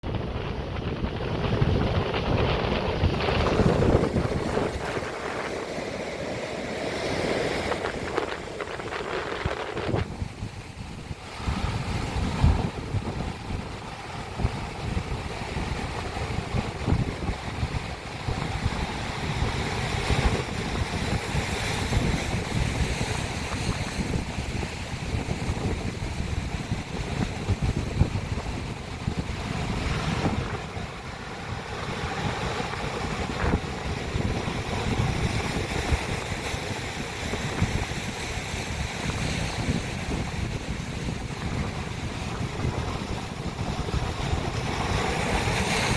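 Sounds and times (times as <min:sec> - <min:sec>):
waves crashing against rocks: 0:00.0 - 0:45.9
wind buffeting microphone: 0:00.0 - 0:45.9.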